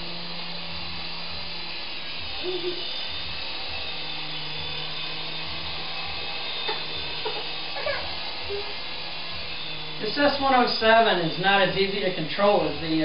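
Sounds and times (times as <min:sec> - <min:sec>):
toy helicopter motor whine: 0:00.0 - 0:13.0.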